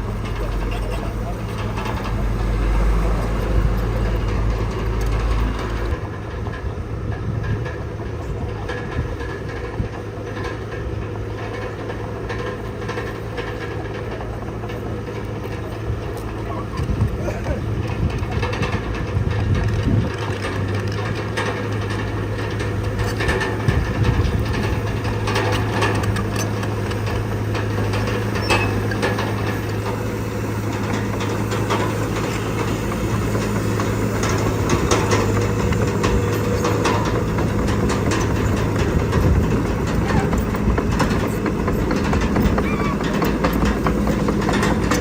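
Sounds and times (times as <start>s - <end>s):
heavy machinery diesel engine running: 0.0s - 45.0s
metallic clanks and rattles: 0.0s - 45.0s.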